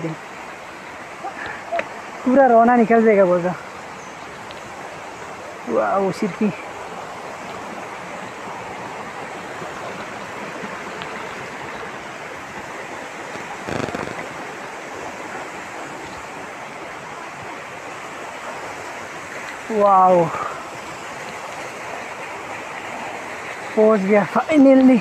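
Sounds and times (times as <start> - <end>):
waterfall rushing over boulders: 0.0 - 25.0.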